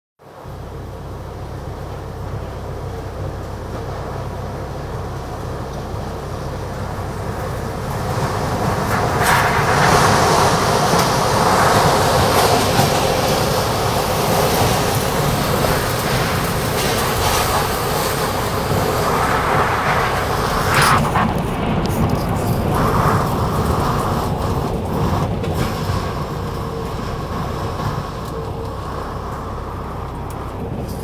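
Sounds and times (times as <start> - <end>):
tornado wind rushing: 4.2 - 31.0.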